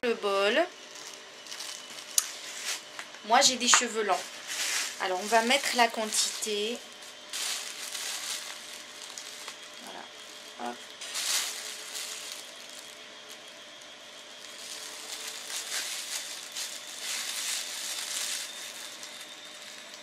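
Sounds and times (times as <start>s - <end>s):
plastic bag crinkling: 0.8s - 20.0s.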